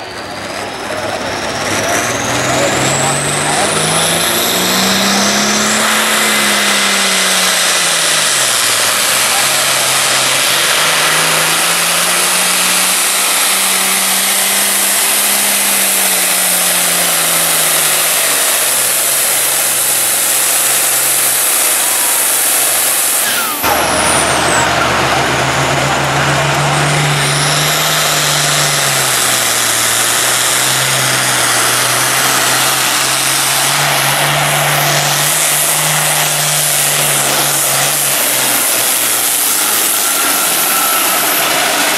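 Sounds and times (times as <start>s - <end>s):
diesel tractor engine at full throttle: 0.0s - 41.9s
high turbo whistle: 0.0s - 41.9s
tractor engine running steadily: 0.0s - 41.9s.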